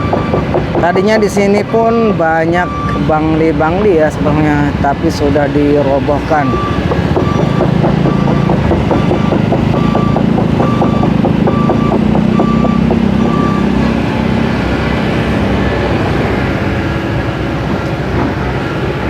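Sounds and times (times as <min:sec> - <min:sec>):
backup alarm beeping: 0:00.0 - 0:15.9
heavy diesel machine running: 0:00.0 - 0:19.0.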